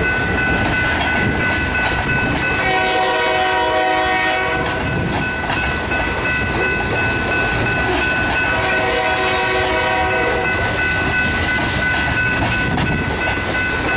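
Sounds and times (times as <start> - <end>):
freight train wheels on rails: 0.0 - 13.9
steady high-pitched tones: 0.0 - 13.9.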